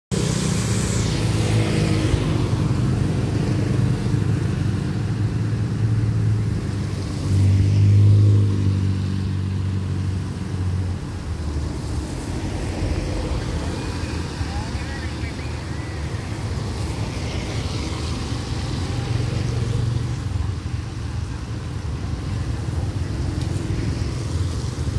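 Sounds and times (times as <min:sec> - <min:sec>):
tyres hissing on wet road: 0:00.1 - 0:24.9.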